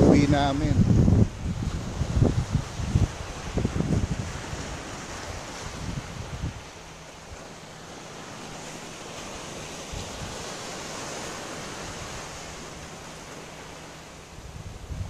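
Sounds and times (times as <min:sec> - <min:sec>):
wind rumble on microphone: 0:00.0 - 0:08.3, 0:09.2 - 0:15.0
sea surf on a beach: 0:00.0 - 0:15.0.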